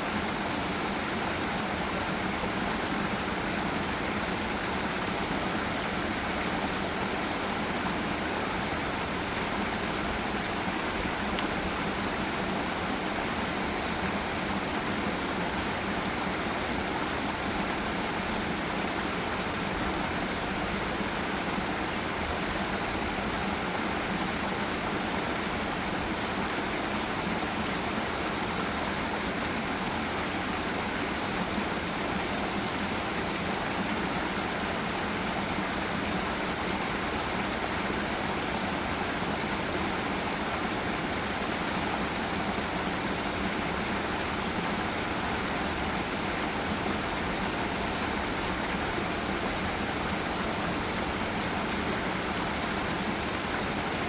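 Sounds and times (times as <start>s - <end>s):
water rushing over waterfall: 0.0s - 54.0s.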